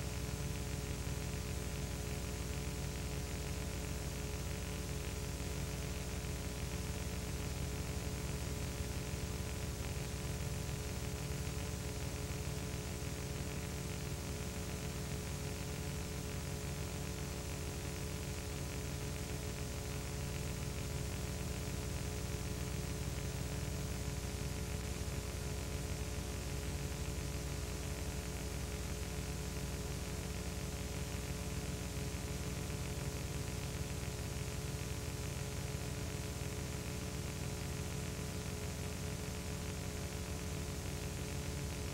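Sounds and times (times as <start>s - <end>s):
static hiss: 0.0s - 41.9s.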